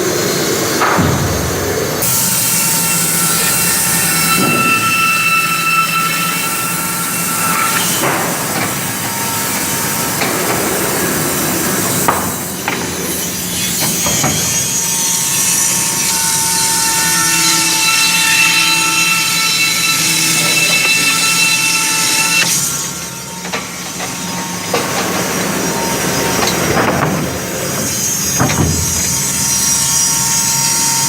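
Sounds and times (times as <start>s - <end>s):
band sawmill humming and whining: 0.0s - 31.0s.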